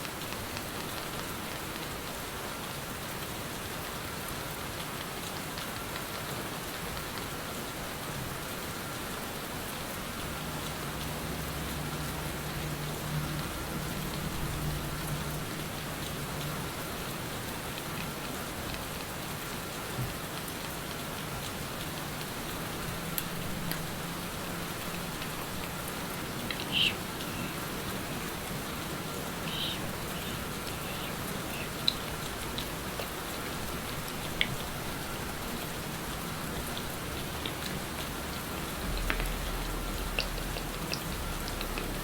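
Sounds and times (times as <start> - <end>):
steady rain falling: 0.0 - 42.0
ticks of raindrops: 0.0 - 42.0.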